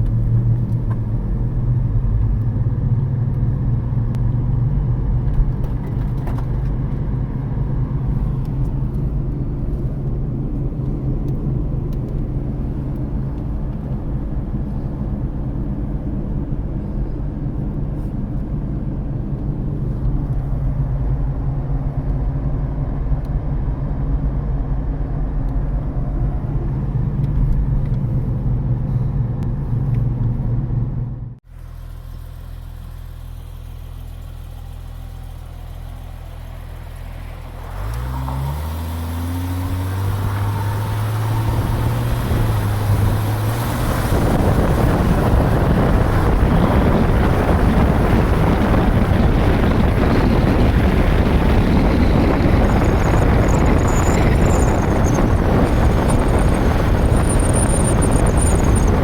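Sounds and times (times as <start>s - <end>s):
car exhaust drone: 0.0s - 59.0s
road and tyre noise: 0.0s - 59.0s.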